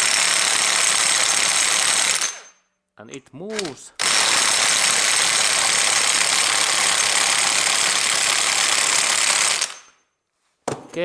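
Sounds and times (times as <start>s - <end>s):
pneumatic impact wrench running: 0.0s - 2.6s, 3.5s - 10.0s.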